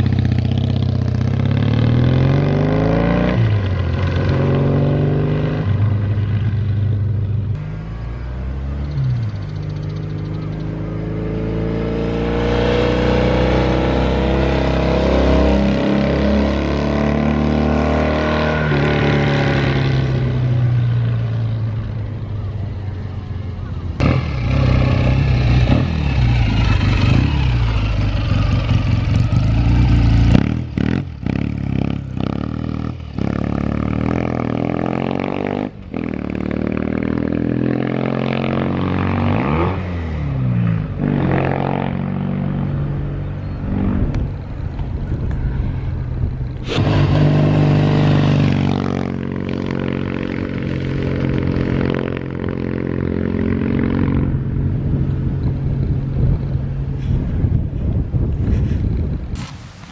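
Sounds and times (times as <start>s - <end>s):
motorcycle engine revving past: 0.0s - 6.8s, 7.8s - 21.6s, 24.0s - 44.4s, 45.1s - 56.2s.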